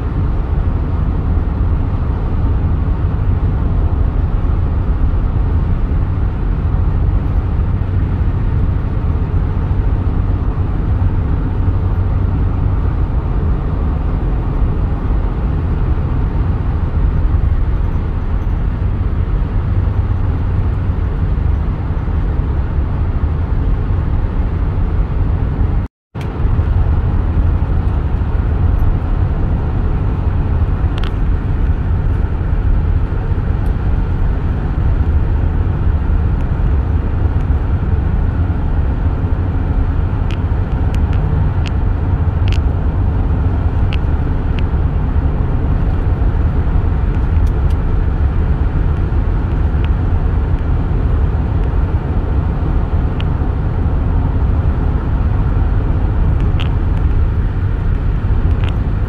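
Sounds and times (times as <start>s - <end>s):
road and tyre noise in car: 0.0s - 59.0s.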